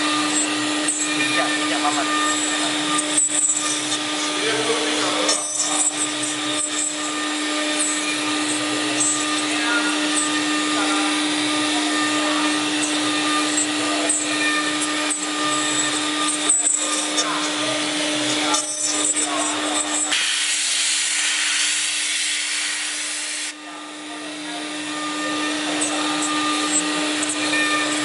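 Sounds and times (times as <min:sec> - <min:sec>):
router bit cutting wood: 0:00.0 - 0:28.0
router spindle whine: 0:00.0 - 0:28.0.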